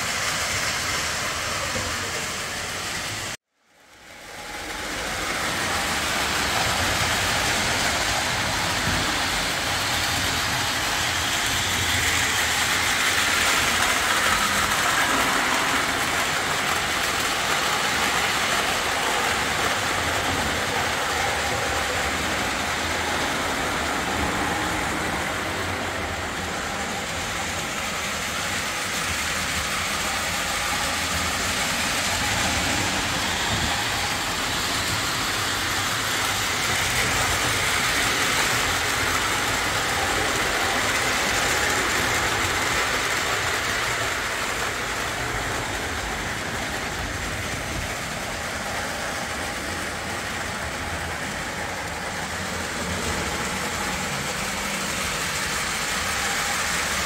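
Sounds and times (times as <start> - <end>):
model train wheels rumbling on rail: 0.0 - 57.0.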